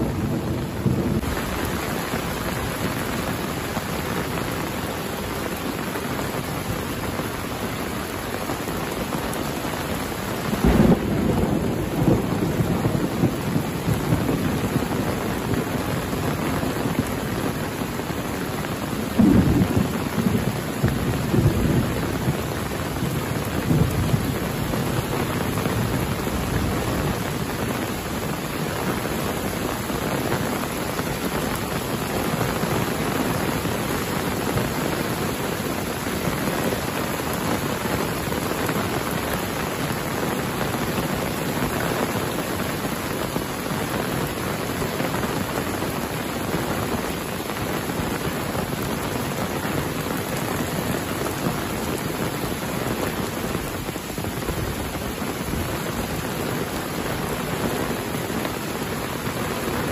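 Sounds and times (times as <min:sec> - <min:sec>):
heavy rain on leaves and ground: 0:00.0 - 0:59.9.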